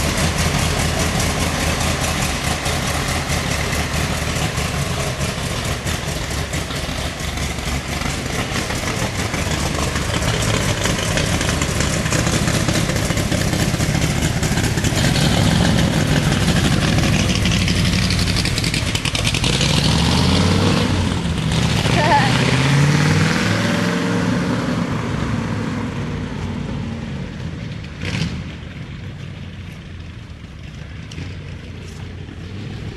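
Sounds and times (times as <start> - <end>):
car engine idling: 0.0 - 19.8, 26.3 - 32.9.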